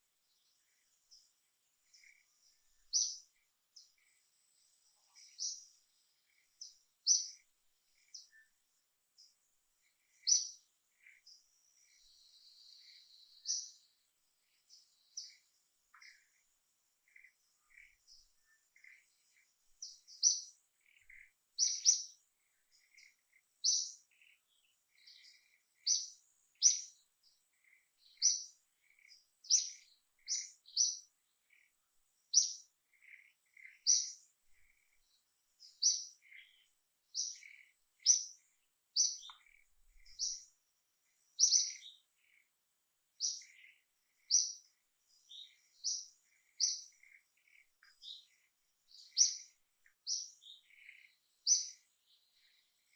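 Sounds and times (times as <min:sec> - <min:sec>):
small bird chirping: 0:00.0 - 0:52.9.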